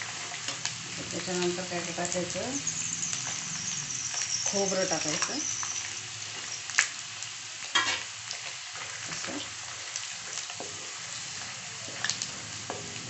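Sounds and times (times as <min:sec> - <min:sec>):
oil sizzling with frying food: 0:00.0 - 0:13.0.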